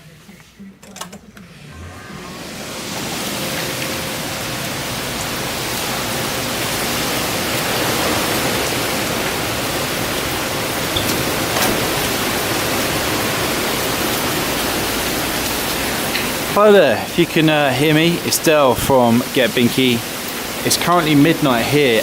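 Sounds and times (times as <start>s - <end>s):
strong wind and rain: 2.3s - 22.0s.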